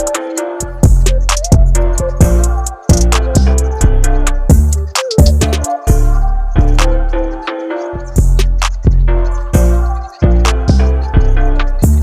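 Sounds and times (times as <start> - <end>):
music with heavy bass and drums: 0.0 - 7.3, 8.0 - 12.0.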